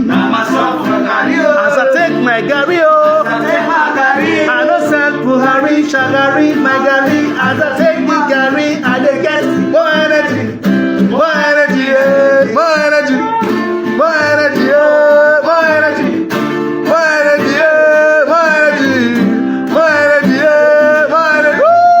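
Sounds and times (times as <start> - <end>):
guitar accompaniment: 0.0 - 22.0
person singing: 0.0 - 22.0.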